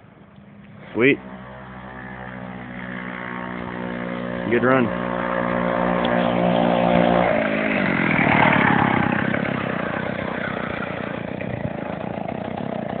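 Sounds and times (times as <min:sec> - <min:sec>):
two-stroke engine idling: 0:00.4 - 0:13.0.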